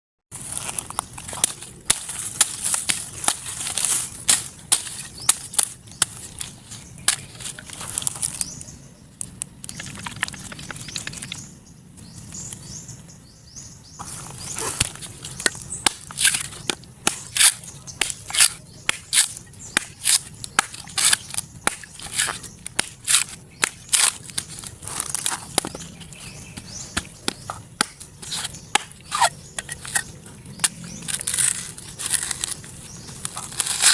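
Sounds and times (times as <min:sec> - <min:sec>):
coconut husk tearing and cracking: 0:00.4 - 0:08.6, 0:14.1 - 0:33.9.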